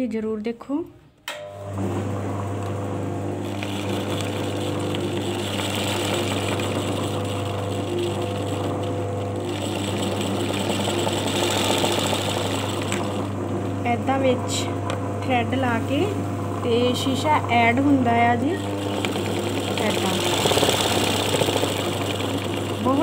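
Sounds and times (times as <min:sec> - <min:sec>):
sewing machine running: 0:01.8 - 0:14.7, 0:15.9 - 0:23.0.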